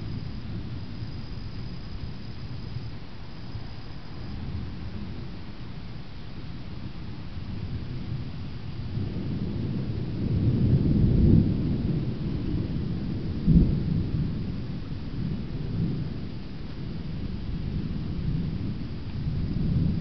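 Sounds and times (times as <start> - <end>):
thunder rumbling: 0.0 - 5.6, 7.2 - 20.0.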